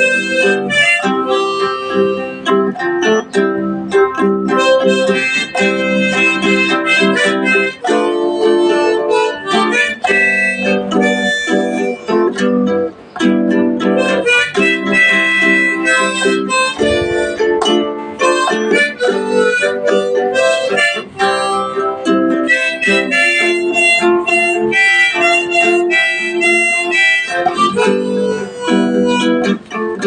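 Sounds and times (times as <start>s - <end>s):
harmonica melody: 0.0s - 30.0s
strummed acoustic guitar: 0.0s - 30.0s.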